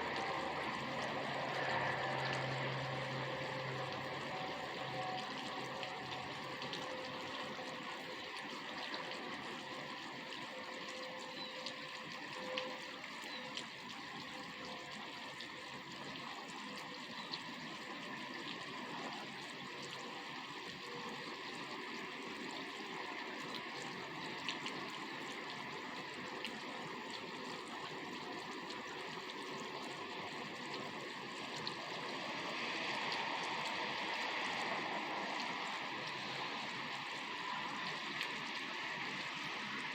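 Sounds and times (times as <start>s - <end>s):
raindrops ticking: 0.0s - 39.9s
steady rain falling: 0.0s - 39.9s.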